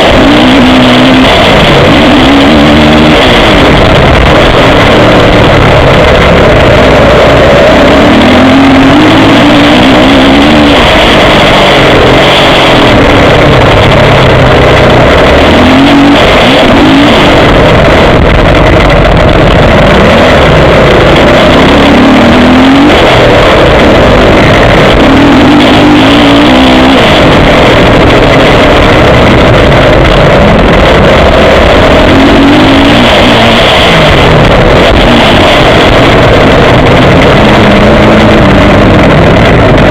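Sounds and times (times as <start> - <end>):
motocross bike engine revving: 0.0 - 39.9
wind noise: 0.0 - 39.9.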